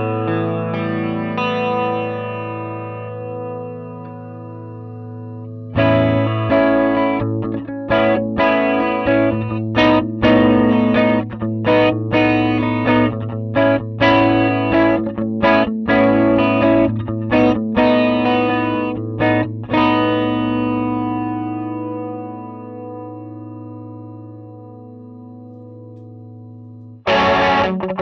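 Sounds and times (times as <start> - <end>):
electric guitar strumming chords: 0.0 - 28.0.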